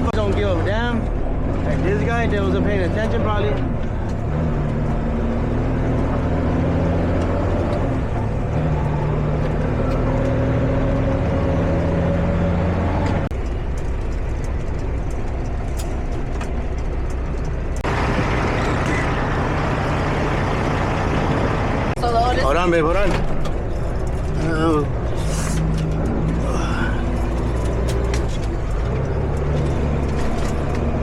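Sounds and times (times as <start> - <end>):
truck diesel engine accelerating: 0.0 - 31.0.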